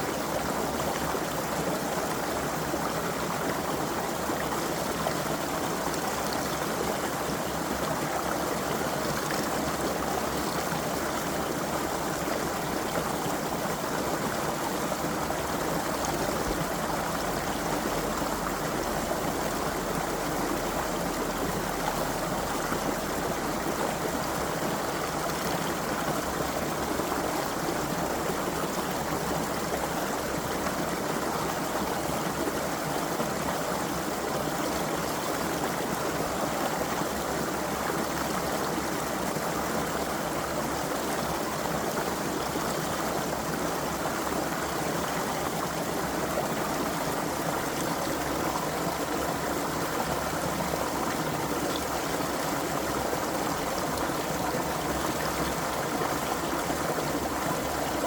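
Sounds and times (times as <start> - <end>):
creek flowing over stones: 0.0 - 58.0.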